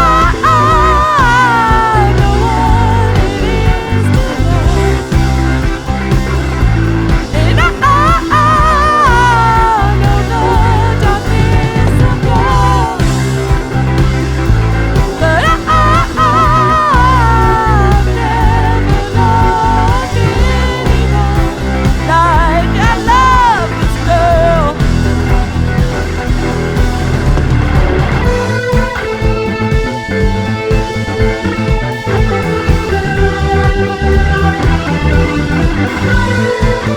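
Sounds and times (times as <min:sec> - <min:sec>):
bass guitar: 0:00.0 - 0:36.9
high lead melody with vibrato: 0:00.0 - 0:36.9
steady beat: 0:00.0 - 0:36.9.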